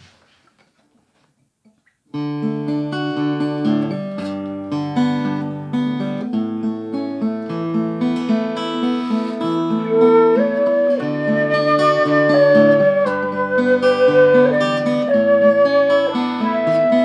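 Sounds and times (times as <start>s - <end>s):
acoustic guitar folk song: 1.8s - 17.0s.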